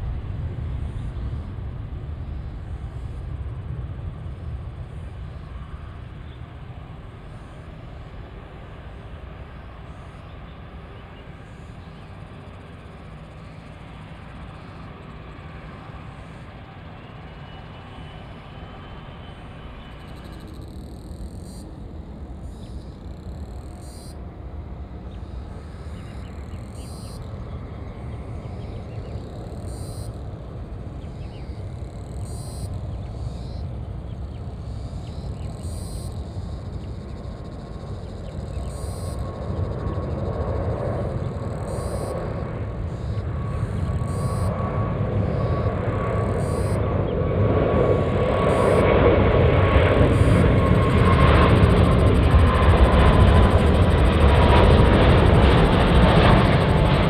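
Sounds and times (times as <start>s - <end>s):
jet engine whine: 0.0s - 57.0s
jet engines rumbling: 0.0s - 57.0s.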